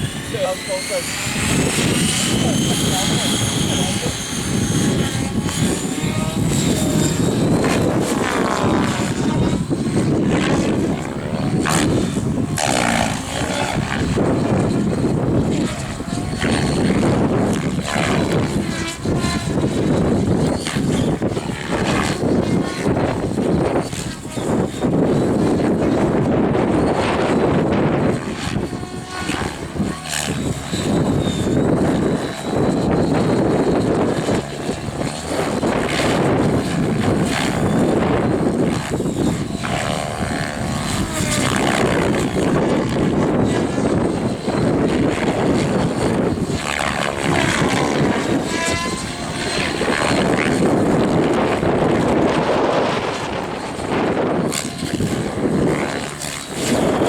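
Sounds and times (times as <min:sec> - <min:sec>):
rc helicopter rotor and motor whine: 0:00.0 - 0:57.0.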